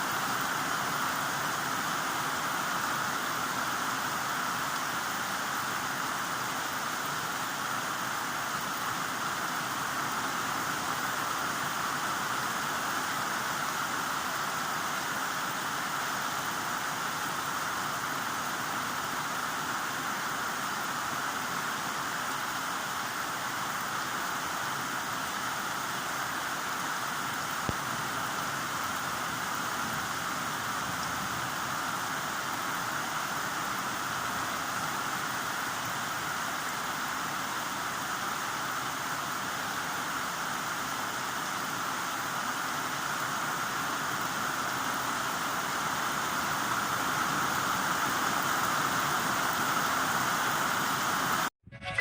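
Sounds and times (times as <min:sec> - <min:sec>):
heavy rain falling: 0:00.0 - 0:51.5.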